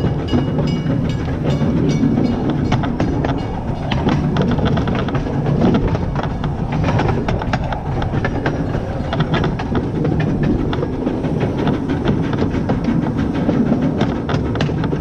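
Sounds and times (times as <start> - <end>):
train wheels rumbling on rail: 0.0 - 15.0
wheels clicking and clattering: 0.0 - 15.0.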